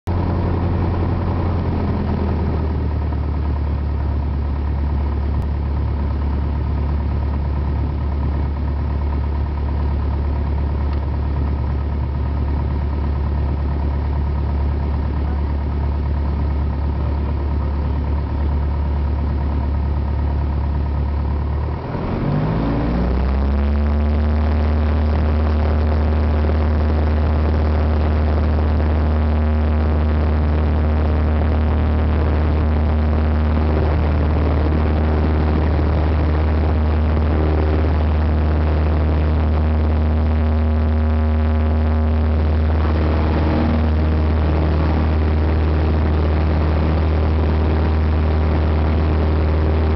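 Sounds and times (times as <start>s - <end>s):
propeller airplane engine running: 0.0s - 49.9s.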